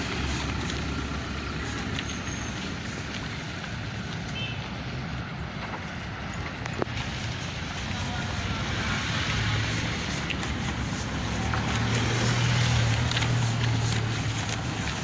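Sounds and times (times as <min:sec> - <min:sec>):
street traffic: 0:00.0 - 0:15.0
vehicle engine running close by: 0:00.0 - 0:15.0.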